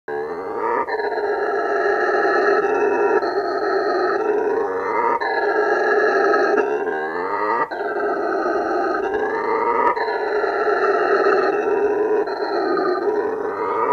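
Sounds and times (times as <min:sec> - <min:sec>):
howler monkey roaring: 0:00.1 - 0:13.9.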